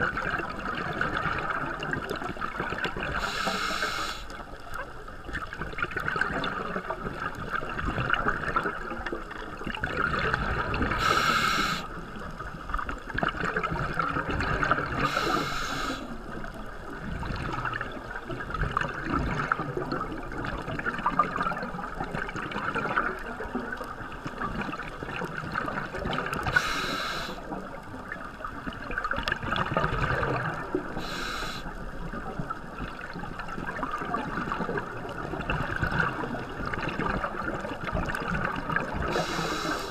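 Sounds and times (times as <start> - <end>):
regulator breathing and exhaled bubbles: 0.0 - 4.4, 5.6 - 23.5, 24.3 - 27.8, 28.6 - 39.9
underwater watery hiss and bubbling: 0.0 - 39.9.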